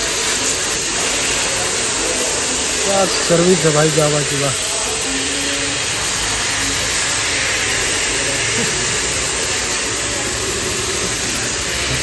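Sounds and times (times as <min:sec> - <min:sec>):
compressed air jet hissing: 0:00.0 - 0:12.0.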